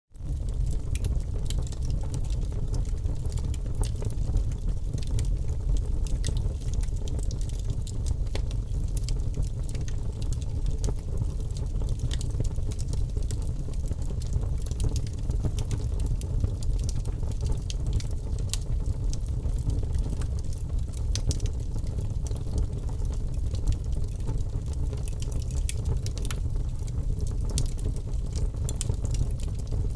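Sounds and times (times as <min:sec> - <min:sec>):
wood fire crackling: 0:00.2 - 0:29.9.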